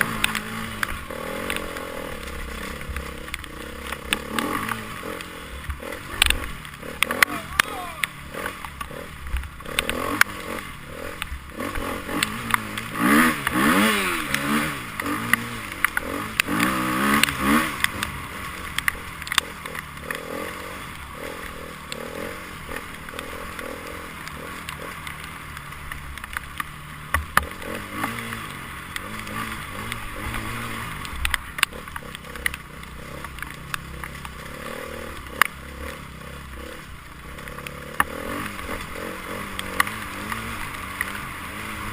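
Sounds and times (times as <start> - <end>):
motorcycle engines revving: 0.0 - 41.9
sharp clicks and clatter: 0.0 - 41.9.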